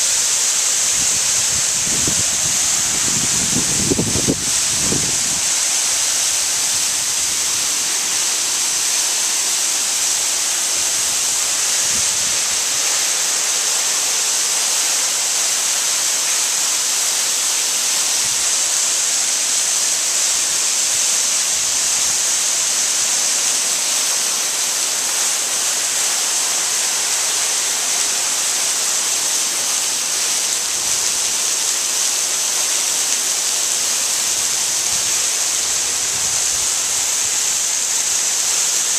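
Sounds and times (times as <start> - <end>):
waterfall splashing onto rocks: 0.0 - 38.9.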